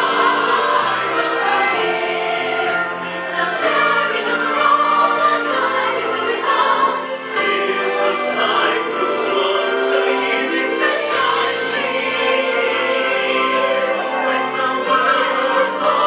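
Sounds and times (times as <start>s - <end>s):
choir singing held notes: 0.0s - 16.0s
instruments playing: 0.0s - 16.0s.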